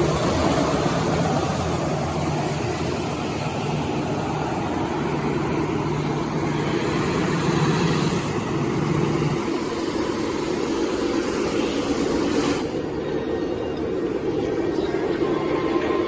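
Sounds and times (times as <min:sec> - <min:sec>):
sanding machine running: 0:00.0 - 0:12.9.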